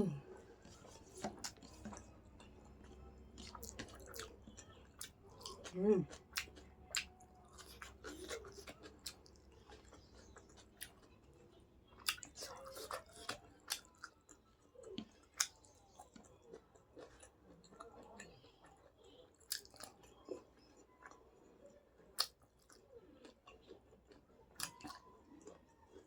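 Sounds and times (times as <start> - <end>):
chewing and eating mouth noises: 0.1 - 26.0
food crunching: 0.2 - 26.0.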